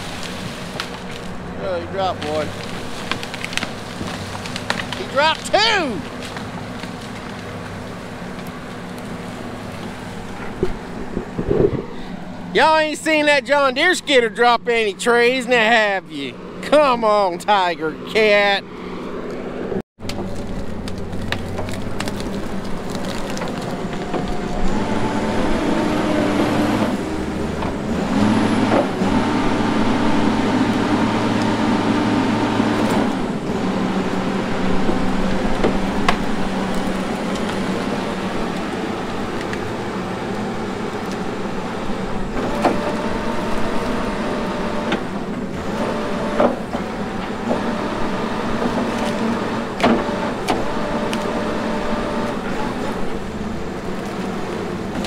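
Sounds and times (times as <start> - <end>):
grapple and logs clanking: 0.0 - 16.0, 20.0 - 55.0
diesel engine under heavy load: 0.0 - 18.8, 19.4 - 55.0.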